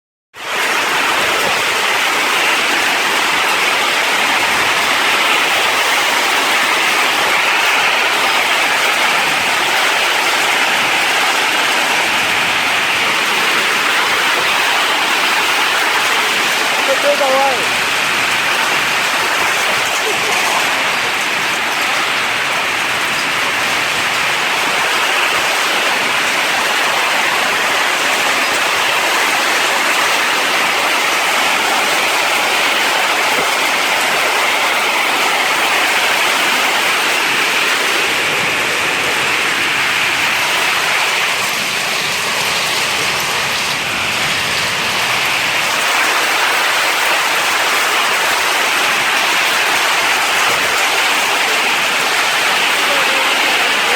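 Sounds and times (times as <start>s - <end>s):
heavy rain pouring: 0.3s - 53.9s.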